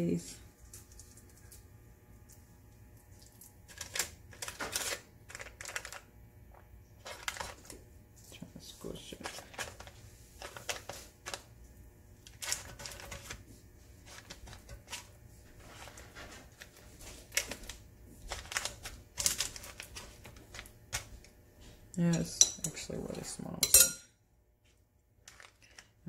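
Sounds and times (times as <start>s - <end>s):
parchment paper crinkling: 0.5s - 11.6s, 12.2s - 21.8s, 24.7s - 26.0s.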